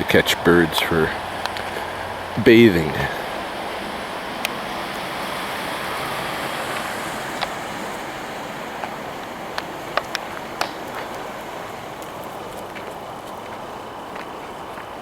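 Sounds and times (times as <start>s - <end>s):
water rushing from channel: 0.0s - 15.0s.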